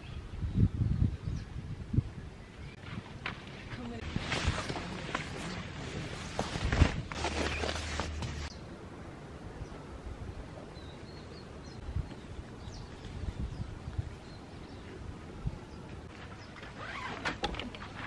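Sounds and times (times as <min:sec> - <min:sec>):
wind buffeting microphone: 0:00.0 - 0:07.7, 0:09.3 - 0:16.1.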